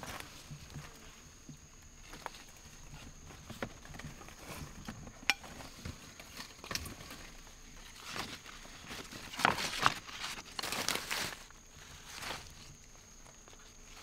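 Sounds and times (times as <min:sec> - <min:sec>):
rustling and crackling leaves: 0:00.0 - 0:14.0.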